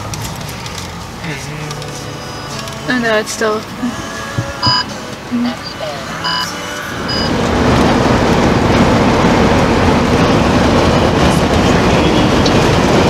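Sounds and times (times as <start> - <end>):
diesel bus engine rumble: 0.0 - 13.0.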